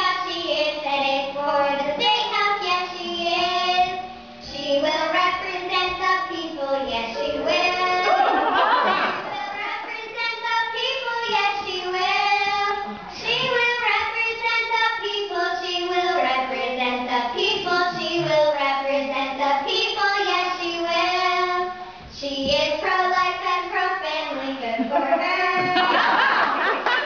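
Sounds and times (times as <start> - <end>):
high voice singing unaccompanied: 0.0 - 8.4, 9.1 - 25.8.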